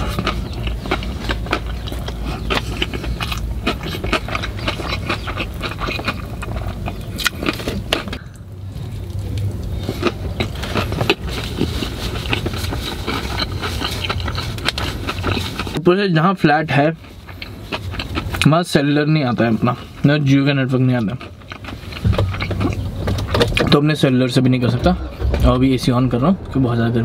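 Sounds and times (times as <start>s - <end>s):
person chewing food: 0.0s - 15.8s, 17.0s - 18.6s, 19.4s - 23.7s
steady low rumble: 0.0s - 15.8s, 20.7s - 27.0s.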